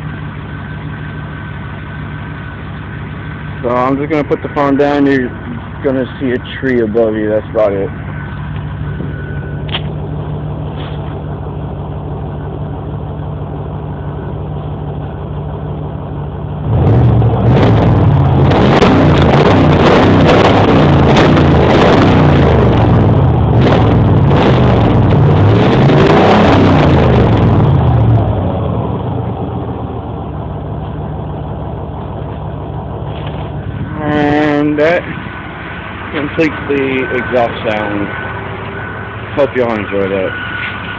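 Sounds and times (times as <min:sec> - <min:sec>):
truck engine idling and revving: 0:00.0 - 0:40.9.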